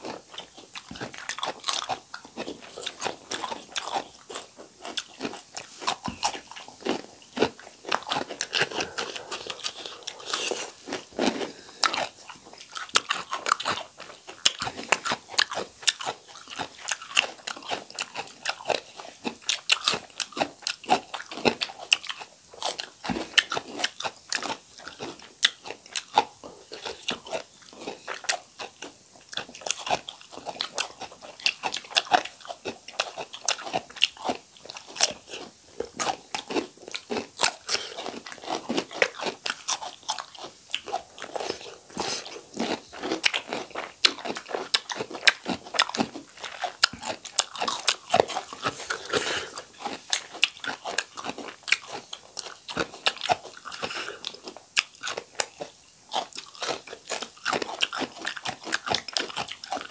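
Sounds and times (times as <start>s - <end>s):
people chewing cucumber: 0.0s - 59.9s.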